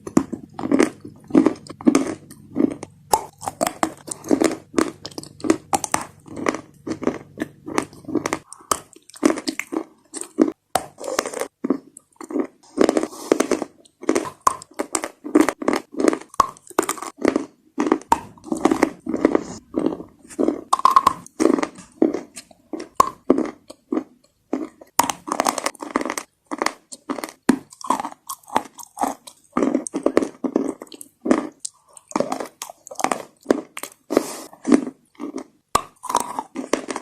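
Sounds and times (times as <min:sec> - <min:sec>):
wet crunchy chewing: 0:00.0 - 0:37.0.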